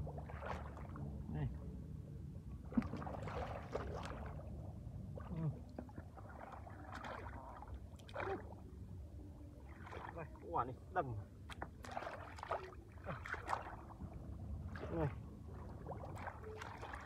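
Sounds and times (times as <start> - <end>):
muddy water splashing: 0.0 - 1.0, 2.7 - 8.8, 9.6 - 17.0.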